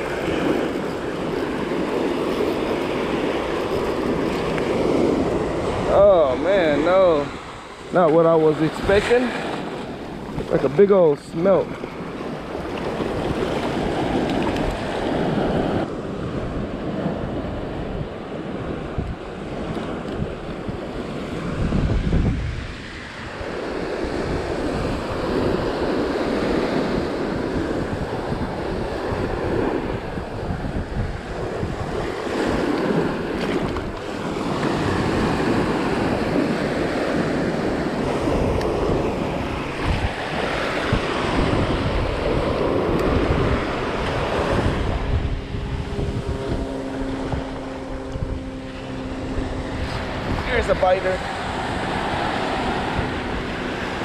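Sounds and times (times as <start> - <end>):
surf breaking on sand: 0.0 - 47.9, 48.7 - 54.0
wind buffeting microphone: 0.0 - 54.0.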